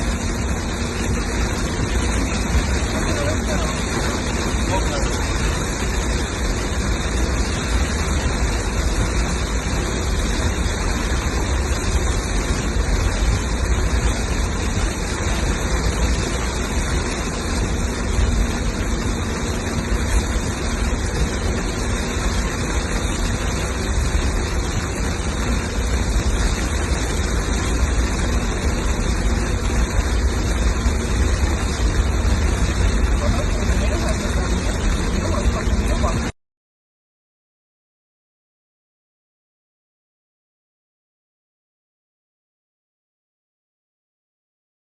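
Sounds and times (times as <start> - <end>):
torrential rain pouring: 0.0 - 36.4.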